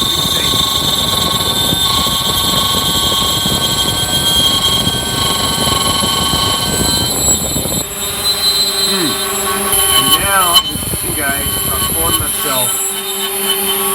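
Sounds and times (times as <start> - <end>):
lathe rumbling: 0.0 - 13.9
stepper motor whine: 0.0 - 13.9.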